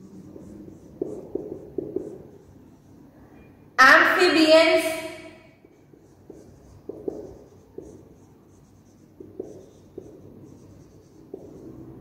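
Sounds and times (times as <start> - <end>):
marker writing on whiteboard: 0.0 - 3.2, 3.9 - 12.0.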